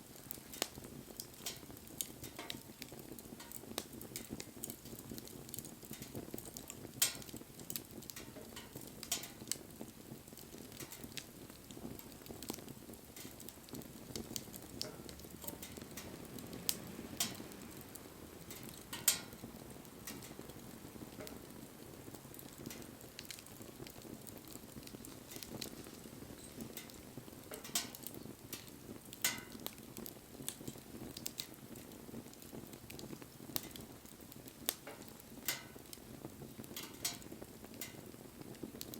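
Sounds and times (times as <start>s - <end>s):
burning wood popping: 0.0s - 38.9s
wood fire crackling: 0.0s - 38.9s.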